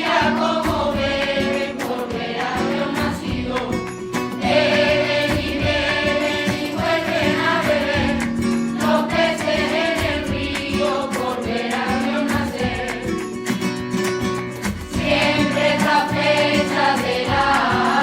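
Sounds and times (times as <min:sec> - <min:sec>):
choir singing a carol: 0:00.0 - 0:13.4, 0:14.9 - 0:18.0
instrumental accompaniment: 0:00.0 - 0:18.0.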